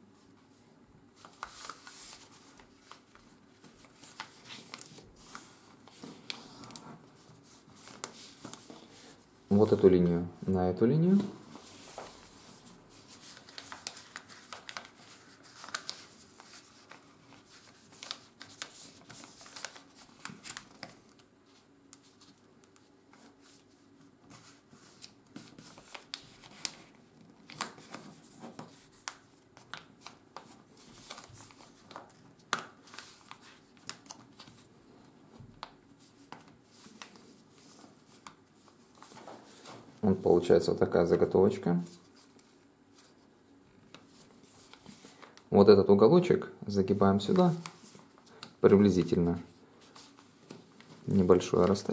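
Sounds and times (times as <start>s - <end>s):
paper being folded: 1.2s - 10.0s, 11.0s - 34.7s, 35.5s - 43.3s, 43.9s - 45.4s, 46.7s - 51.9s.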